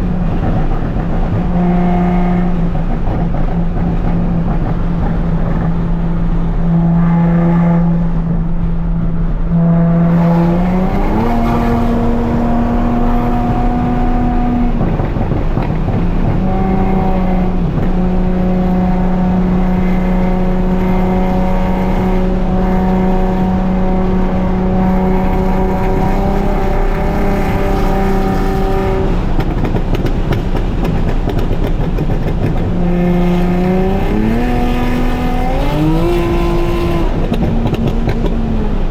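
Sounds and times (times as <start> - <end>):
car exhaust accelerating: 0.0 - 38.9.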